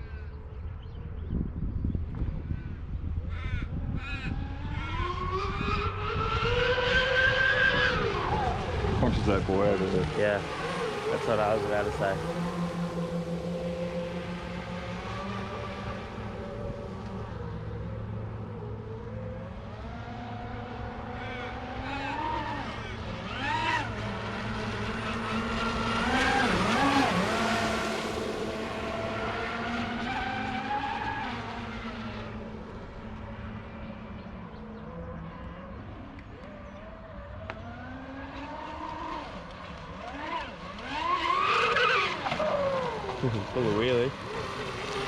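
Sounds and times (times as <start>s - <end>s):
electric boat motors whining: 2.3s - 45.0s.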